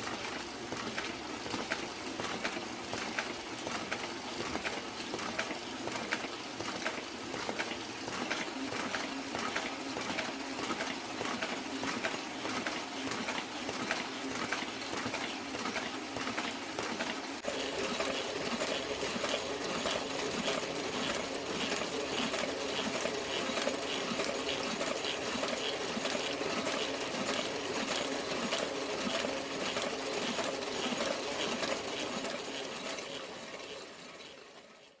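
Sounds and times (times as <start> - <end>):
printing press rhythmic clatter: 0.0 - 35.0.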